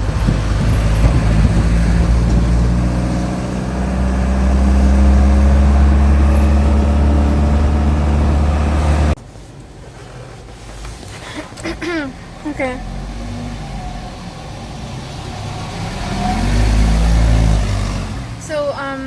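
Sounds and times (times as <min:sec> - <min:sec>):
vehicle engine running: 0:00.0 - 0:09.2, 0:12.1 - 0:19.0.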